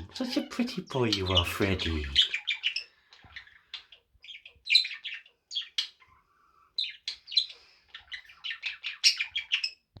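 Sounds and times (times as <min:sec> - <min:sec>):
budgerigar chirping and warbling: 0:00.0 - 0:06.2, 0:06.8 - 0:09.9.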